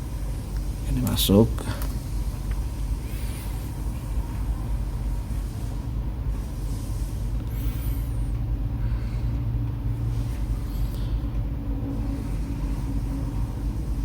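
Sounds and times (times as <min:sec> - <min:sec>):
faint constant hum: 0:00.0 - 0:14.0
steady low rumble: 0:00.0 - 0:14.0.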